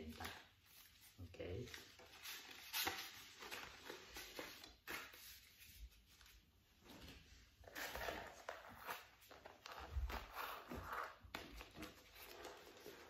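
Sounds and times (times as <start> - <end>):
paper and envelope rustling: 0.0 - 13.0.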